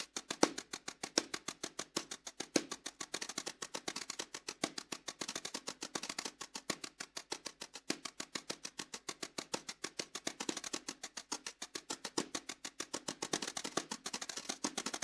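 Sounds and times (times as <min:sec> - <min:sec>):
snare drum played with brushes: 0:00.0 - 0:15.0.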